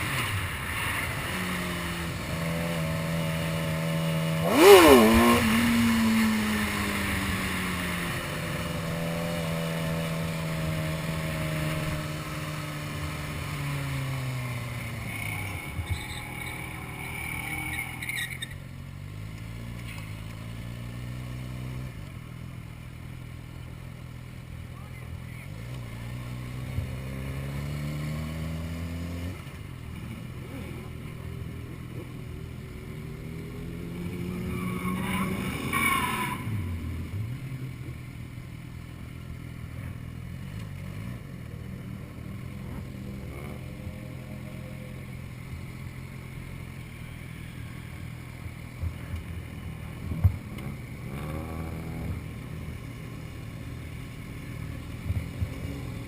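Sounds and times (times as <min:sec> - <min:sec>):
engines revving: 0:00.0 - 0:22.3, 0:24.2 - 0:56.0.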